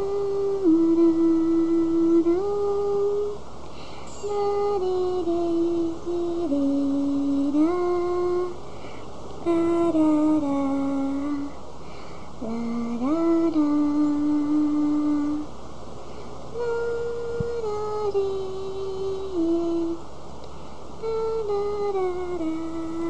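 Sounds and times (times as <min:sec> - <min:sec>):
person humming a slow tune: 0:00.0 - 0:08.7, 0:09.4 - 0:15.5, 0:16.5 - 0:20.1, 0:21.0 - 0:23.0.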